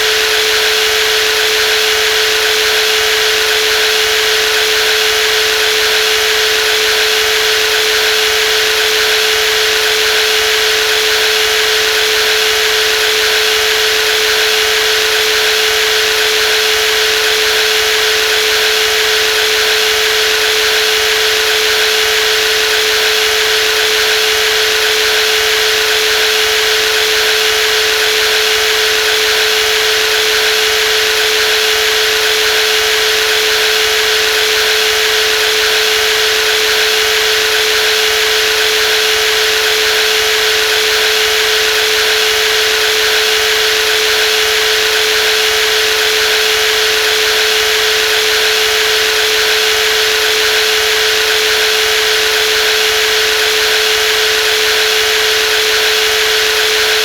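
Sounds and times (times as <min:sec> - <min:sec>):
jigsaw running: 0:00.0 - 0:57.0.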